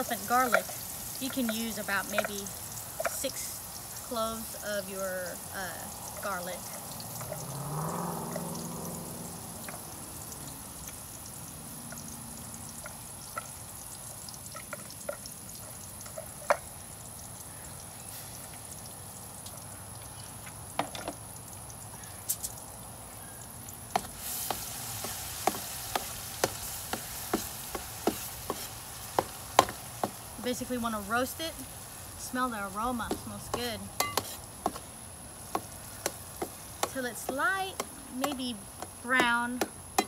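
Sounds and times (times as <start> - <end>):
paste sizzling in oil: 0.0 - 23.0, 23.7 - 40.0.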